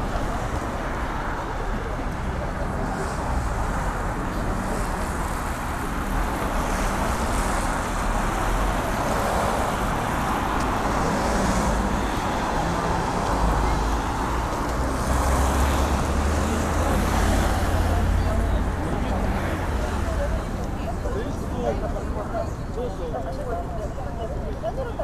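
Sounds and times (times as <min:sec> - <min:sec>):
cars driving past: 0:00.0 - 0:22.4
low traffic rumble: 0:00.0 - 0:25.0.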